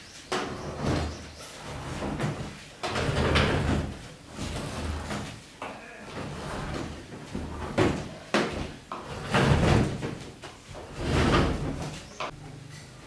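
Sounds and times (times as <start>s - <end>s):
cabinet scraping on concrete: 0.2s - 12.4s.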